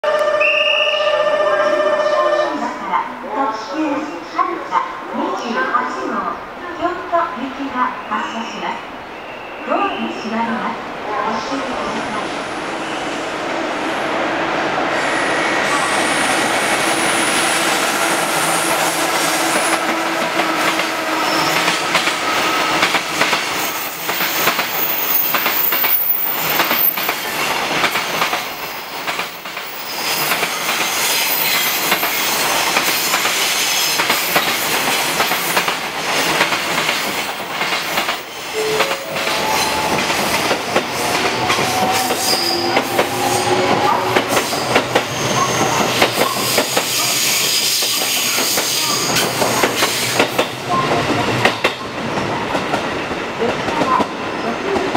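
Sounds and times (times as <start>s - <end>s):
rising whine of passing train: 0.0s - 54.9s.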